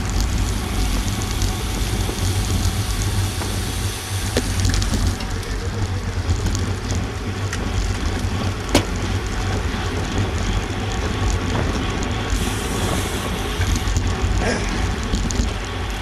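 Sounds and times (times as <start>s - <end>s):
bicycle tyre and road noise: 0.0s - 16.0s.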